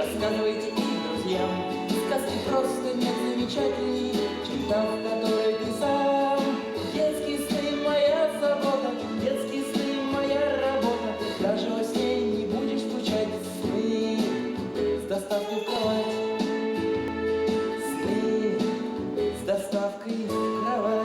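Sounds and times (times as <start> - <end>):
instrumental accompaniment: 0.0 - 21.0
person singing: 0.0 - 21.0.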